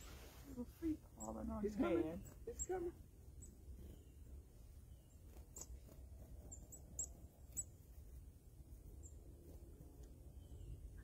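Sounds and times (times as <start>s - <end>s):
high songbird chirps: 0.8s - 11.0s.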